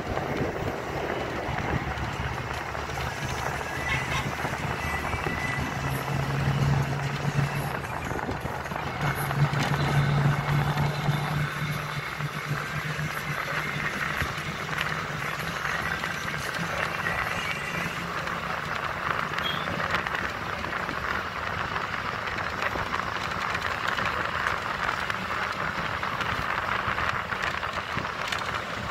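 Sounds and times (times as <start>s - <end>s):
bus engine hum: 0.0s - 28.9s
tyre and road noise: 0.0s - 28.9s.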